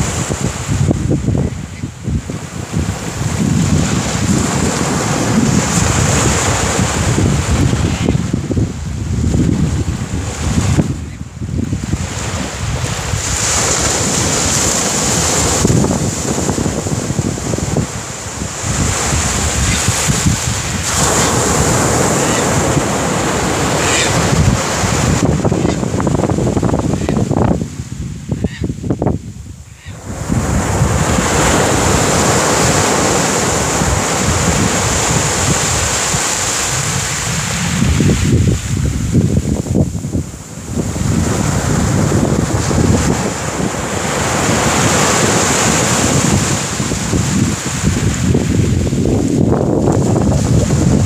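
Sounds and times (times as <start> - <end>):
small waves breaking on beach: 0.0 - 28.2, 29.5 - 51.0
wind buffeting microphone: 0.0 - 51.0.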